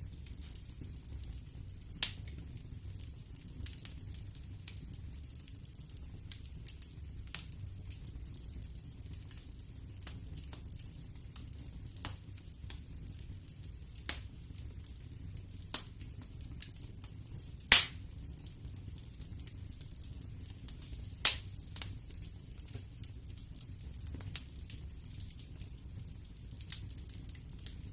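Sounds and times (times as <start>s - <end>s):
low steady fire rumble: 0.0s - 27.9s
wood fire crackling and popping: 0.0s - 27.9s.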